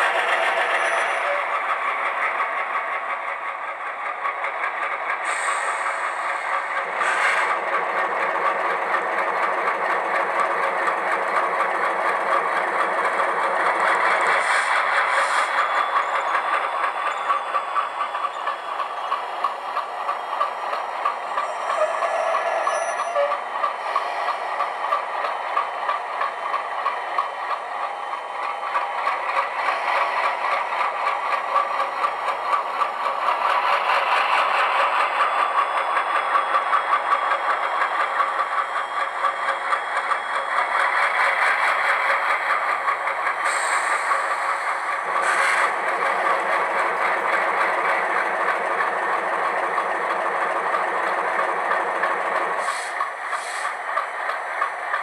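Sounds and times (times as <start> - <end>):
model train diesel engine sound: 0.0 - 55.0.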